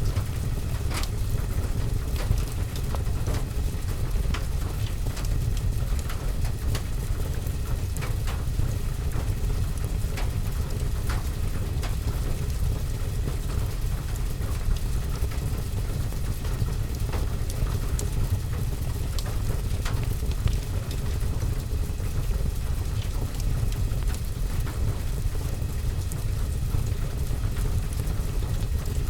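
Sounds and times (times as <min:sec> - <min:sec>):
steady rain on window and roof: 0:00.0 - 0:29.0
wood fire crackling: 0:00.0 - 0:29.0.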